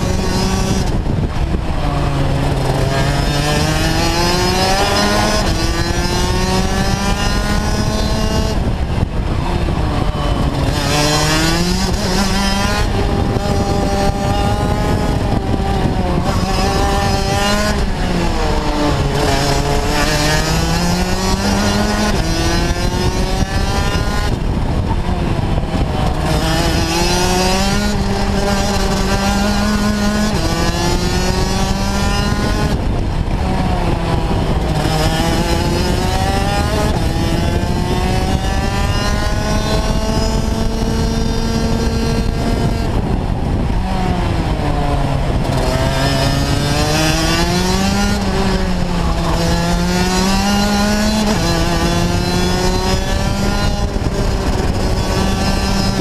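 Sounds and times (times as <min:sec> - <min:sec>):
kart two-stroke engine racing: 0:00.0 - 0:56.0.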